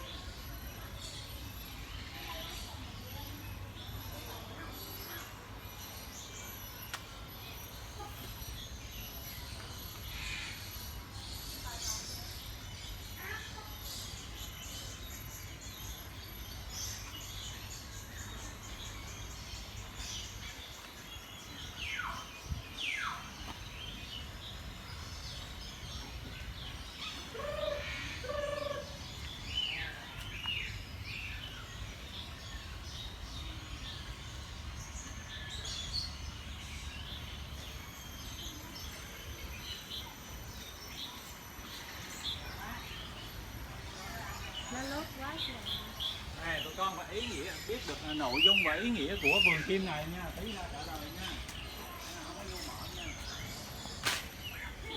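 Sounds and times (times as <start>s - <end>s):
birds chirping and twittering: 0.0s - 54.9s.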